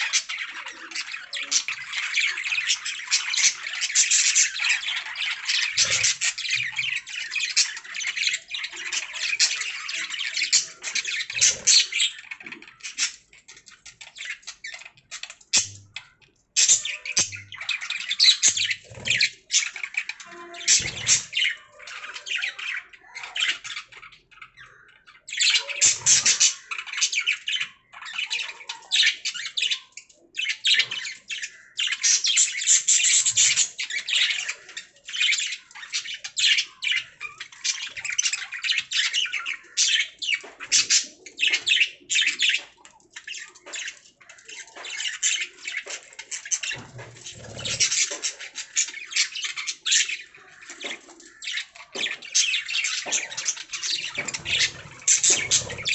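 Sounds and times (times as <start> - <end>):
parakeets chirping and warbling: 0.0 - 55.9.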